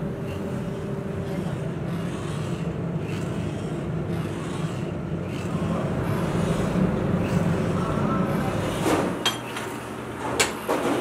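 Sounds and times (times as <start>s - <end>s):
sand mixer humming: 0.0s - 10.7s.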